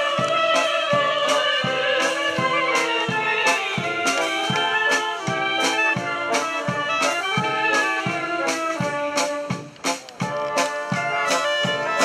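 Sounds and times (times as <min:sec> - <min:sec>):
brass band playing a march: 0:00.0 - 0:12.0
steady drum beat: 0:00.0 - 0:12.0.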